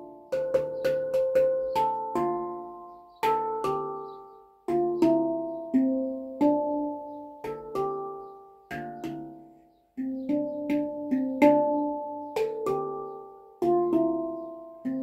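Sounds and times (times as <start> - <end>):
handpan notes: 0.0 - 15.0.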